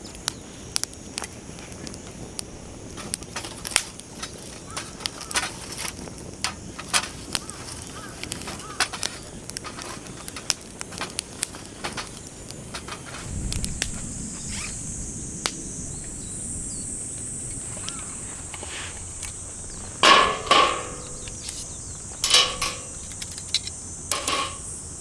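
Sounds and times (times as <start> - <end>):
fire popping: 0.0 - 25.0
wood fire crackling: 0.0 - 25.0.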